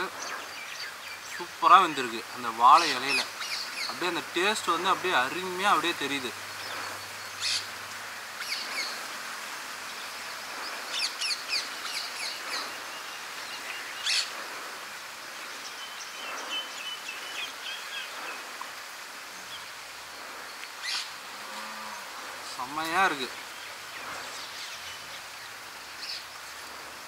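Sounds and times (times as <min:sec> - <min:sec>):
birds chirping: 0:00.0 - 0:27.0
steady outdoor hiss: 0:00.0 - 0:27.0.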